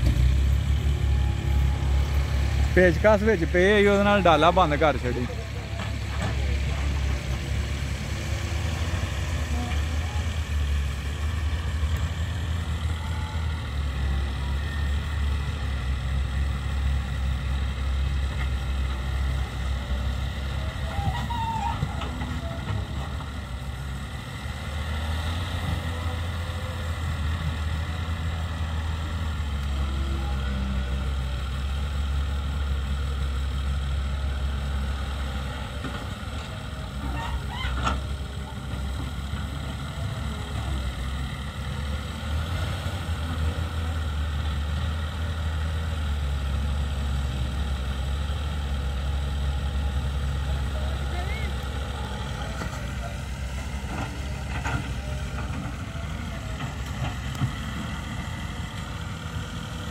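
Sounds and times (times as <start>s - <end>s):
excavator diesel engine: 0.0s - 59.9s
tractor engine running: 0.0s - 59.9s.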